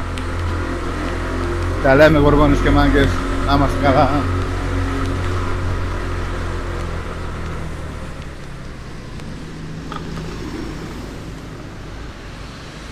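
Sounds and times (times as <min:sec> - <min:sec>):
small motorbike engine running: 0:00.0 - 0:11.6
large vehicle engine passing: 0:00.0 - 0:12.9
wind and tyre noise: 0:00.0 - 0:12.9.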